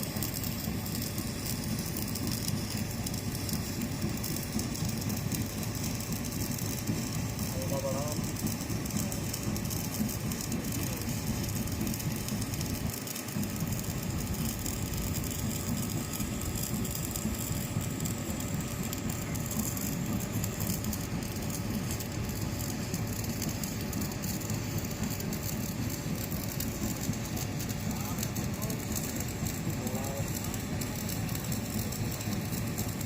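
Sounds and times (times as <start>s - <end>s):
welding arc crackling: 0.0s - 33.0s.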